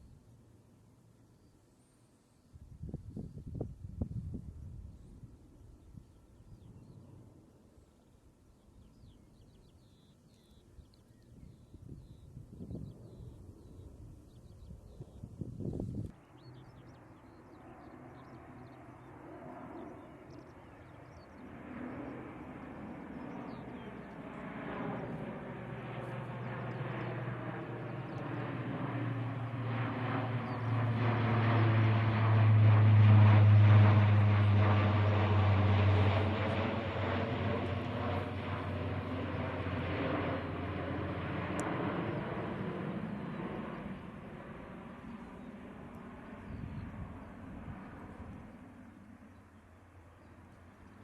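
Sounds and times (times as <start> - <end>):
turboprop aircraft propeller drone: 0.0 - 51.0.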